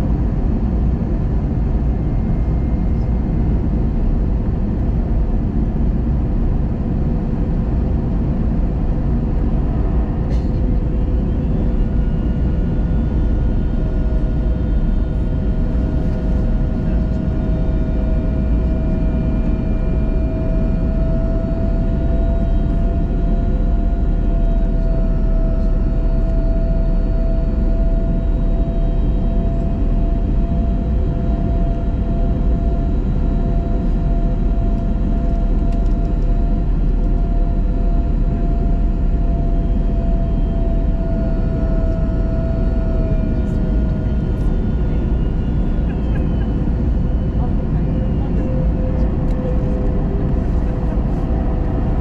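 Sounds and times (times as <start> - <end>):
constant hum: 0.0 - 52.0
roar of engines and airflow: 0.0 - 52.0.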